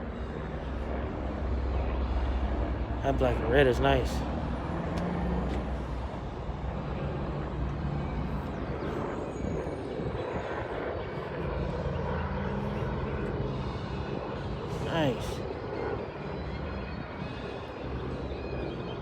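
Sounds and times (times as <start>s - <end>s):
low engine drone: 0.0s - 19.0s
outdoor background noise: 0.0s - 19.0s.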